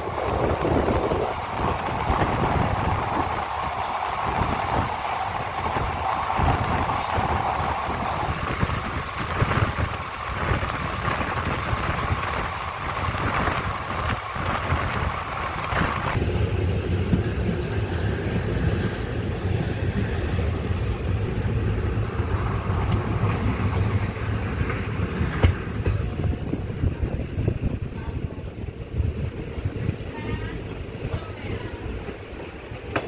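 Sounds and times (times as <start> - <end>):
train running noise: 0.0 - 33.0
wind buffeting microphone: 0.0 - 33.0.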